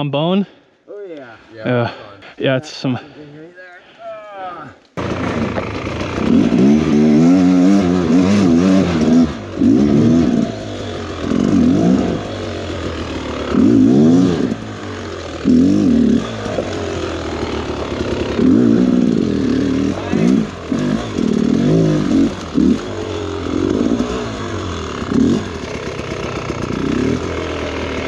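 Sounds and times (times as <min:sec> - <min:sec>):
dirt bike engine revving: 0:05.0 - 0:28.0.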